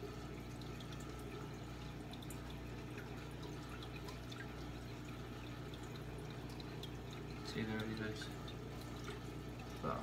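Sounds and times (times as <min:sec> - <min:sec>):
low pump hum: 0:00.0 - 0:10.0
water trickling and dripping: 0:00.0 - 0:10.0.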